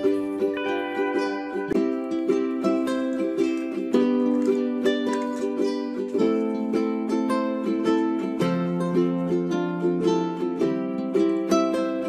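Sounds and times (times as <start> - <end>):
plucked-string tune: 0.0 - 12.0.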